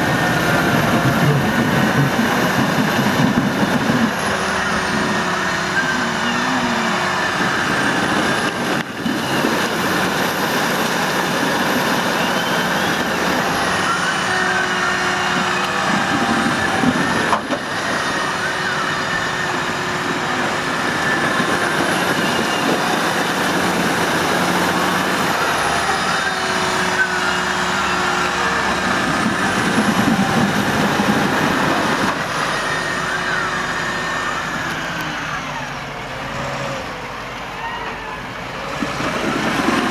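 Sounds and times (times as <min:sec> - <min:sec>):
tractor engine under heavy load: 0:00.0 - 0:39.9.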